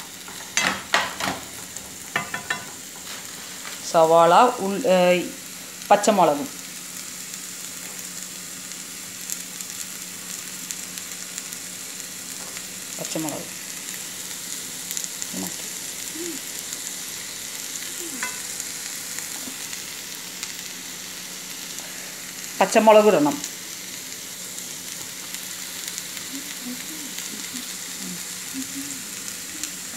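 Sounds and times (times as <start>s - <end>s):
onions sizzling in hot oil: 0.0s - 29.9s.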